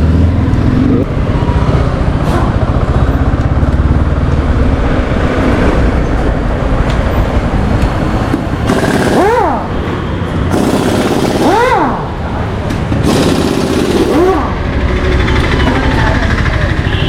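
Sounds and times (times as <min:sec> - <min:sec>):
motorcycle and traffic rumble: 0:00.0 - 0:17.0.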